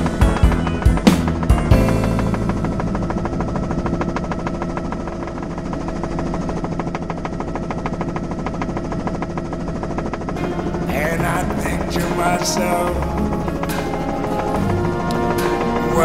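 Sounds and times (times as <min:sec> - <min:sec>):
helicopter rotor chop: 0:00.0 - 0:16.0
turbine mechanical hum: 0:00.0 - 0:16.0.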